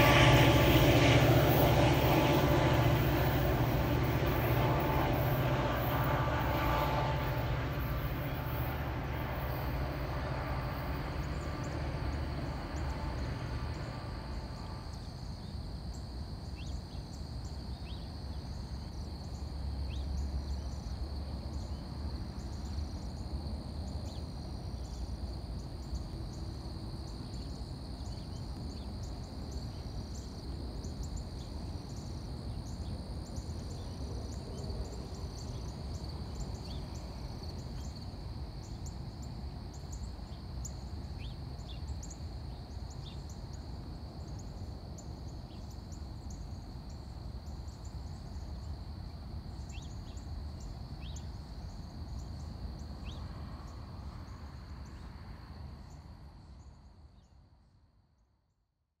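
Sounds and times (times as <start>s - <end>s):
insects droning: 0.0s - 57.7s.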